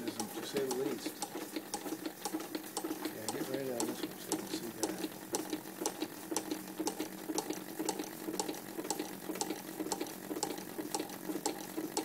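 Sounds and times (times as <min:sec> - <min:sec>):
model steam engine clicking and puffing: 0:00.0 - 0:12.0.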